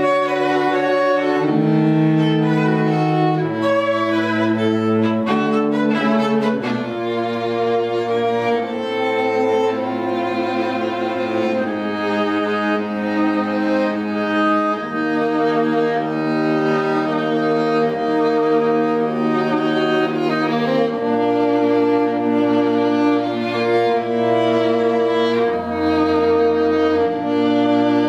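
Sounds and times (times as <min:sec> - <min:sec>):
string trio playing slowly: 0:00.0 - 0:28.0.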